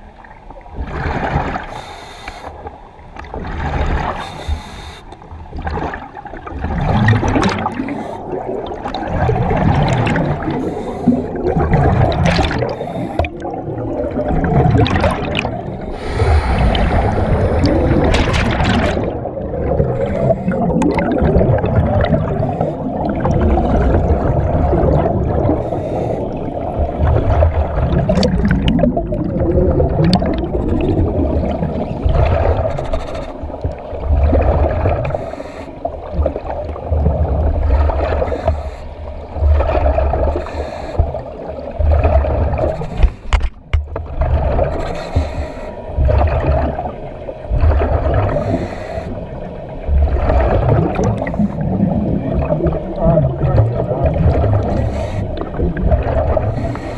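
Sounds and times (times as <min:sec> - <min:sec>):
deep underwater rumble: 0:00.0 - 0:56.9
exhaust bubbles gurgling underwater: 0:00.0 - 0:56.9.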